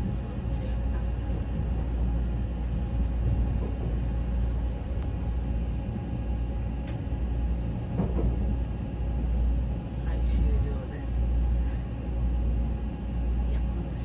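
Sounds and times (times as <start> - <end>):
train running low rumble: 0.0 - 14.0.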